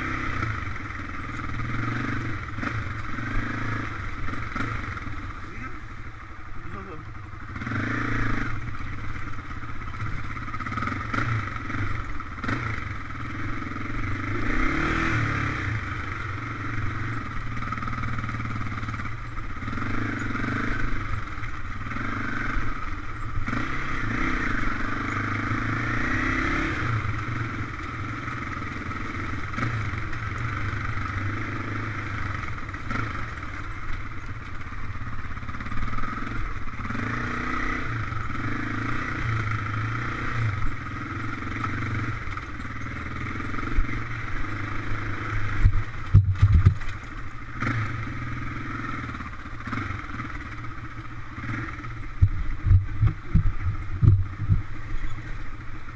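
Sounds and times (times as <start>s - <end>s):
off-road vehicle engine revving: 0.0s - 5.8s, 6.6s - 33.6s, 35.4s - 55.4s.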